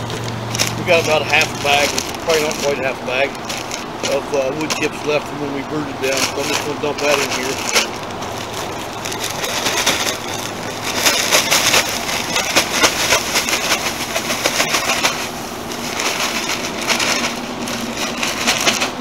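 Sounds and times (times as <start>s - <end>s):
exhaust fan drone: 0.0s - 19.0s
wood shavings pouring and rustling: 0.1s - 19.0s.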